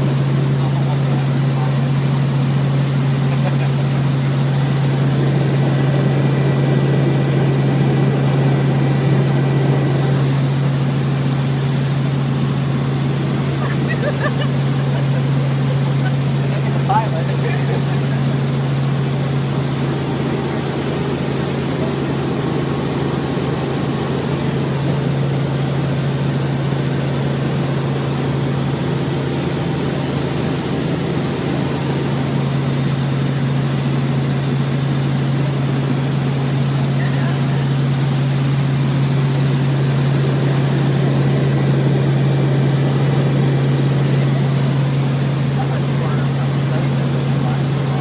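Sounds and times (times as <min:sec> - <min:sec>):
helicopter engine and rotors drone: 0:00.0 - 0:48.0.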